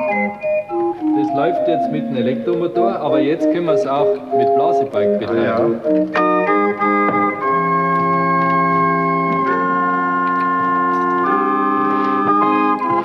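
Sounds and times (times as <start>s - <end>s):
pipe organ playing chords: 0.0s - 13.0s.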